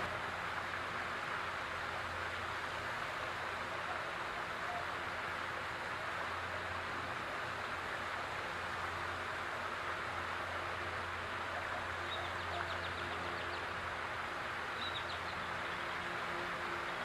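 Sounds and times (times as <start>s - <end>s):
fountain water splashing: 0.0s - 17.0s
low steady hum: 0.0s - 17.0s.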